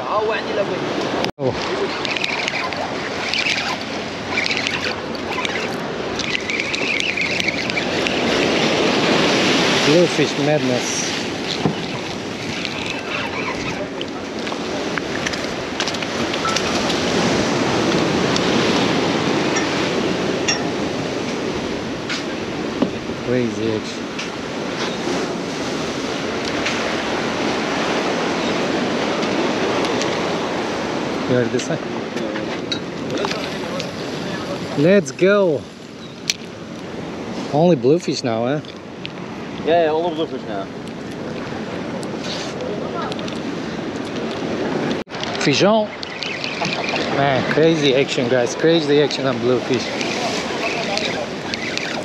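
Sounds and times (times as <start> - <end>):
sea surf: 0.0 - 52.0
wind: 0.0 - 52.0.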